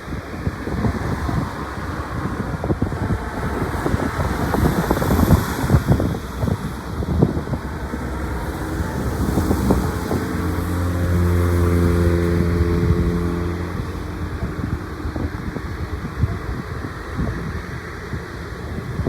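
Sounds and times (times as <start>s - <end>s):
engine drone: 0.0s - 19.0s
wind noise on microphone: 0.0s - 19.0s.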